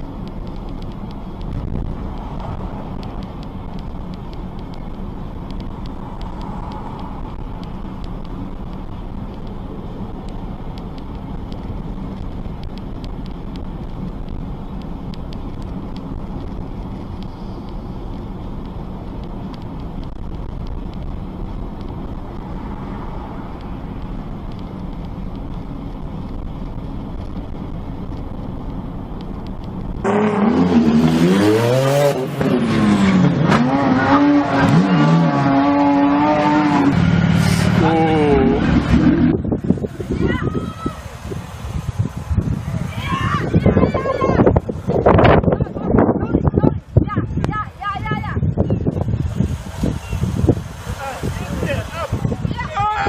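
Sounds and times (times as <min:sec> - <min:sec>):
car driving road noise: 0:00.0 - 0:53.0.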